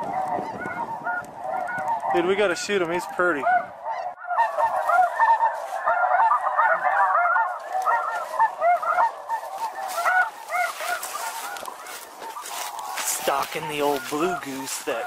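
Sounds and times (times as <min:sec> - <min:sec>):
snow geese honking: 0:00.0 - 0:15.0.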